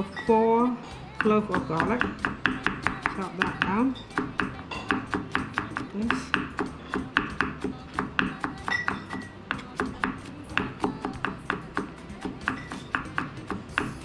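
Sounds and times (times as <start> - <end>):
knife chopping on wooden board: 1.2 - 14.0.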